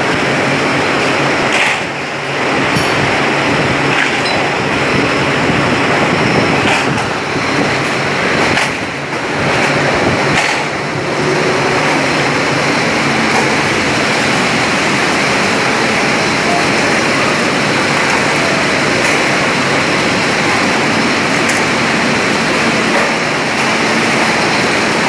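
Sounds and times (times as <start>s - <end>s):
conveyor clattering with glass bottles: 0.0s - 25.0s.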